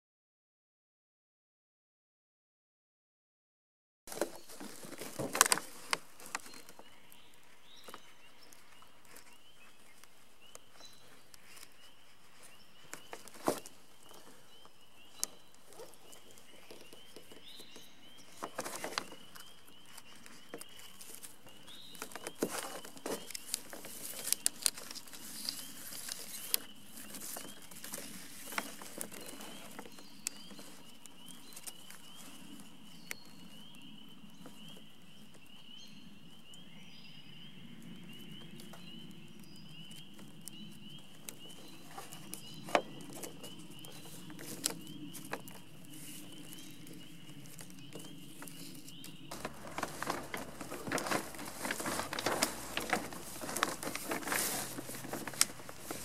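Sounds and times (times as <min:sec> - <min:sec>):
sail film crinkling: 0:04.1 - 0:35.6, 0:37.7 - 0:56.0.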